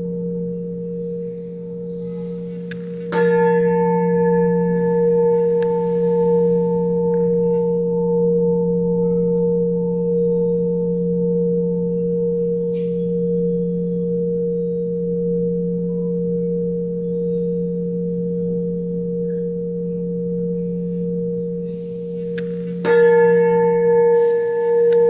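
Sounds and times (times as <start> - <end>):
bright metal strike ring: 0.0 - 25.0
metal singing bowls ringing: 0.0 - 25.0.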